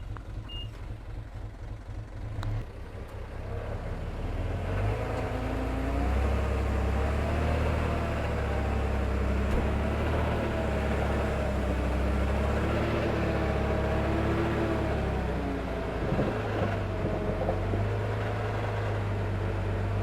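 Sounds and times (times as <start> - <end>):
heavy machinery diesel engine whining: 0.0 - 20.0.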